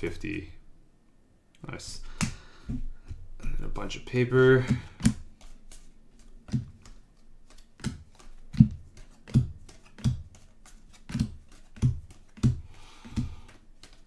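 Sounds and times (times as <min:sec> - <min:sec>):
cards tapping: 0:02.0 - 0:14.0.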